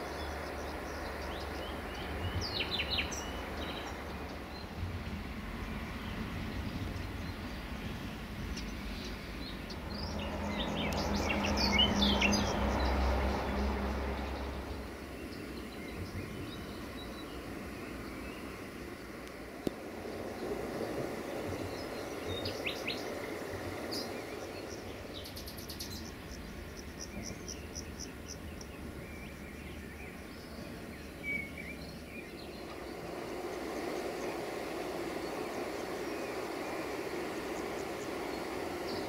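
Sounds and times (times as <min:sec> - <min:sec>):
birds chirping: 0:00.0 - 0:39.0
low steady hum: 0:00.0 - 0:39.0.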